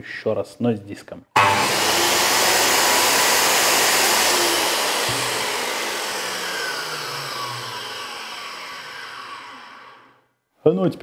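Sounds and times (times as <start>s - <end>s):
circular saw motor whine: 1.4s - 10.2s.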